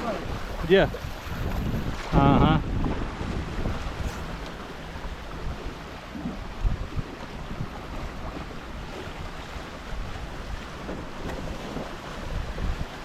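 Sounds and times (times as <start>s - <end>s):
water rushing along hulls: 0.0s - 13.0s
wind buffeting microphone: 0.0s - 13.0s.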